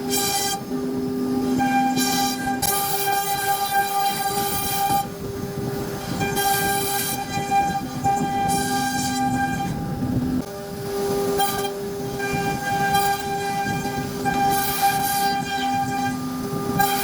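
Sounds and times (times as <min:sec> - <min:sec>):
cnc router spindle whining: 0:00.0 - 0:17.0.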